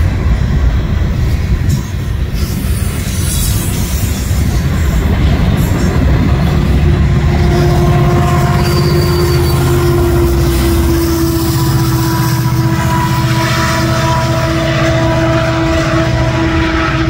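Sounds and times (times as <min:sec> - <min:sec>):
diesel locomotive engine: 0:00.0 - 0:17.0
steady high whine: 0:00.0 - 0:17.0
train wheels clacking over rails: 0:00.0 - 0:17.0.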